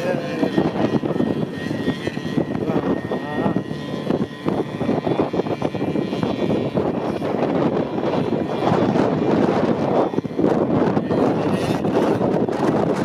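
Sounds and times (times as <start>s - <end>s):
snowmobile engine running: 0.0s - 13.0s
steady rushing noise: 0.0s - 13.0s.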